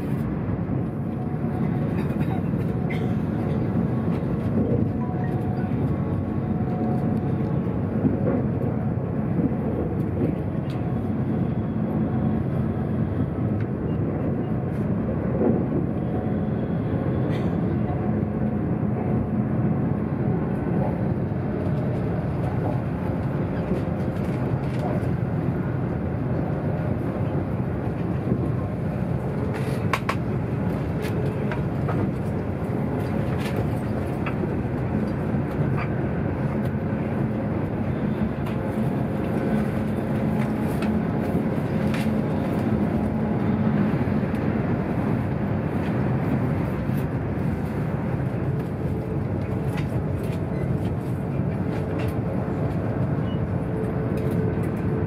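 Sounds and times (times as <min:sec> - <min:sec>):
train rumbling at speed: 0:00.0 - 0:55.0.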